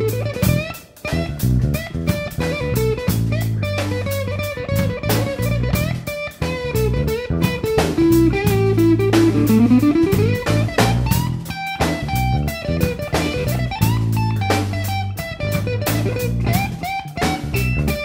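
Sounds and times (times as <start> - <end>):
drums keeping a steady beat: 0.0 - 18.0
guitar-led blues music: 0.0 - 18.0.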